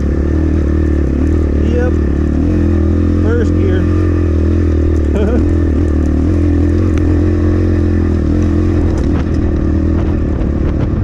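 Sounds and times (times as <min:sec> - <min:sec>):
dirt bike engine pulling: 0:00.0 - 0:11.0.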